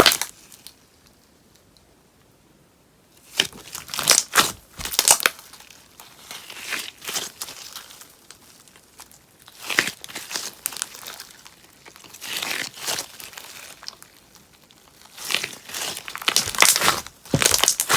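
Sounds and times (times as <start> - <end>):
slime crackling and popping: 3.3 - 17.9
slime squishing: 3.3 - 17.9.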